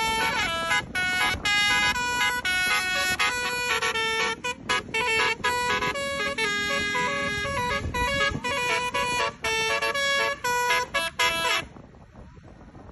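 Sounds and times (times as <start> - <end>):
multi-tone bus horn tune: 0.0 - 11.7.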